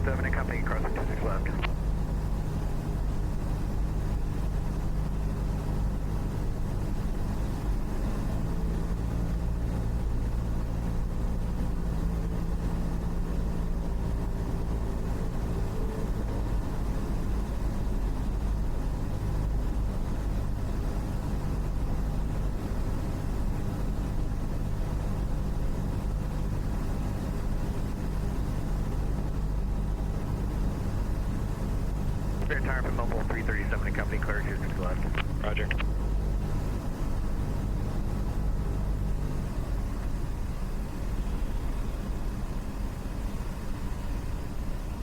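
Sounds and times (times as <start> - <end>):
plane engine and propeller droning: 0.0 - 45.0.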